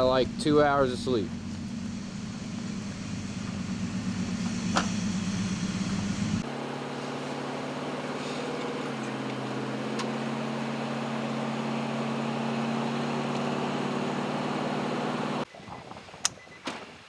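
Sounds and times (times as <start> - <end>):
car engine hum: 0.0 - 15.5
road and tyre noise: 0.0 - 15.5.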